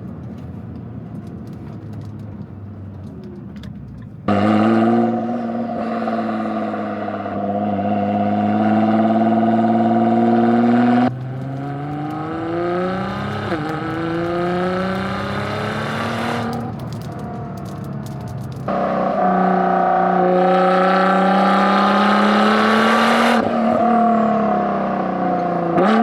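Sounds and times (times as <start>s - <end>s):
car engine revving under load: 0.9s - 26.0s.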